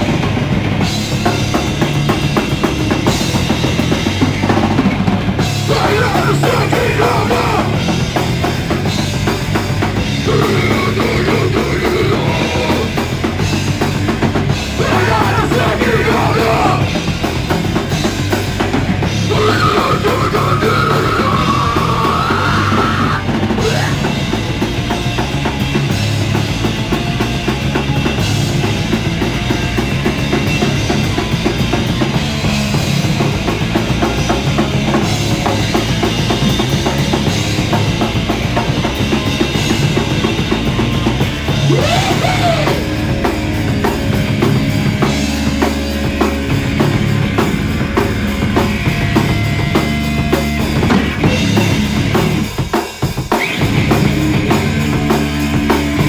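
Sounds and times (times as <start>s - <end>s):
live heavy rock band: 0.0s - 56.0s
pounding drum kit: 0.0s - 56.0s.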